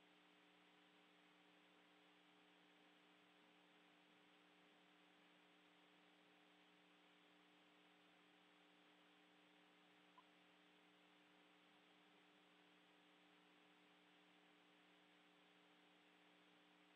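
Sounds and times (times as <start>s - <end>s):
faint electrical hum: 0.0s - 16.9s.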